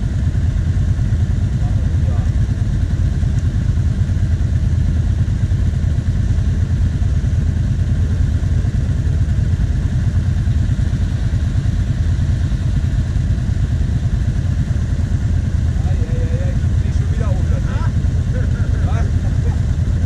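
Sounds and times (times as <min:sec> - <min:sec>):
quad engines idling: 0:00.0 - 0:20.0.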